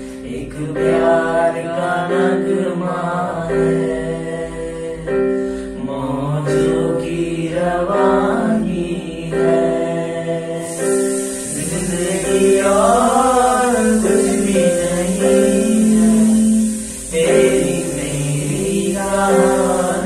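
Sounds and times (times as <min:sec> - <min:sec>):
electronic keyboard chords: 0:00.0 - 0:20.0
young men singing together: 0:00.1 - 0:20.0.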